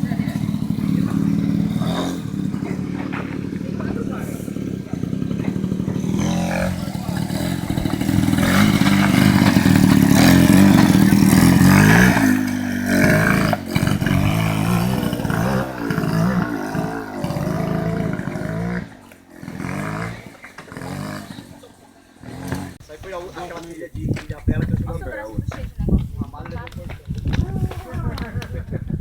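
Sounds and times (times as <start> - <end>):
atv engine revving: 0.0 - 26.1
machine clattering over rough ground: 0.0 - 28.8.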